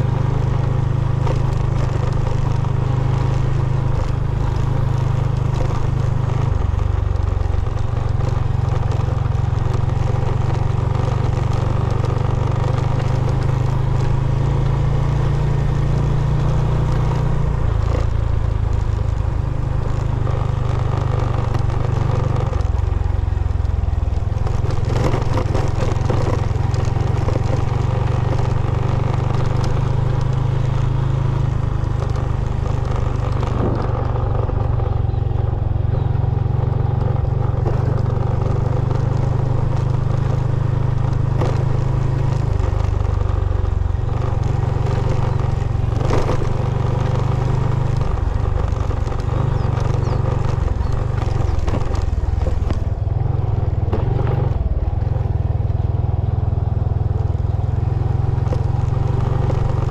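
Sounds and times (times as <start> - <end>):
small motorcycle engine running: 0.0 - 59.9.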